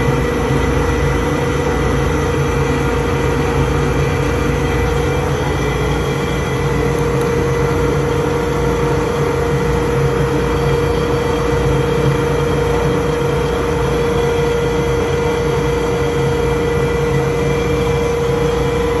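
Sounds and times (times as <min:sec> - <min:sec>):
woodworking machinery droning: 0:00.0 - 0:19.0.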